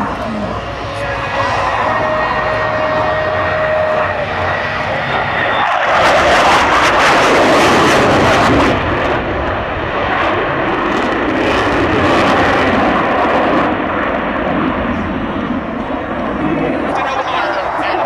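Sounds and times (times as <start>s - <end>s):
airplane engine rushing: 0.0s - 18.0s.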